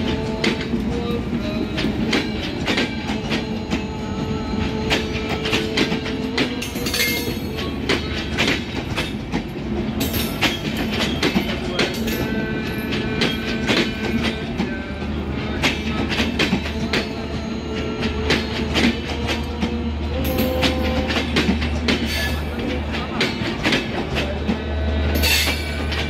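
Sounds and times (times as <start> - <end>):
train wheels clattering over rail joints: 0.0 - 26.0.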